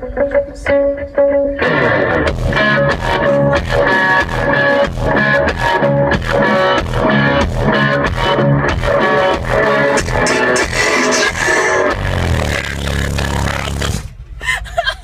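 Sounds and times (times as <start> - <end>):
loud music with guitar and bass: 0.0 - 14.1.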